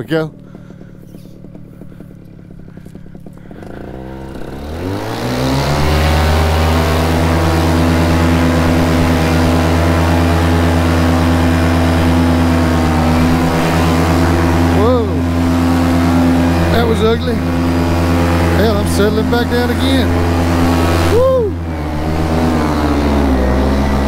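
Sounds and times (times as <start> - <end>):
paramotor engine revving: 0.0 - 24.0
propeller noise: 0.0 - 24.0.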